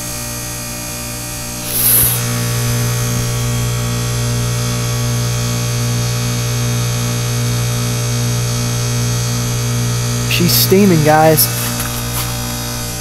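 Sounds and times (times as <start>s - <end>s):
heat pump deep hum: 0.0s - 13.0s.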